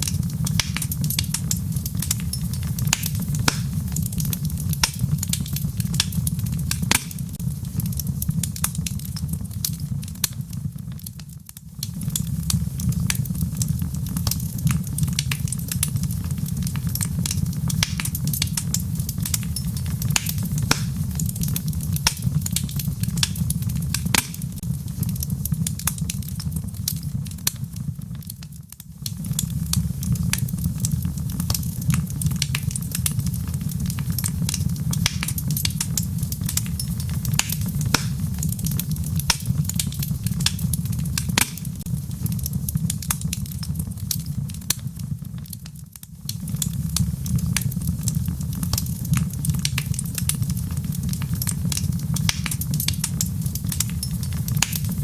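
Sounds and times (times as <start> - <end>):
wood logs burning in fireplace: 0.0 - 55.0.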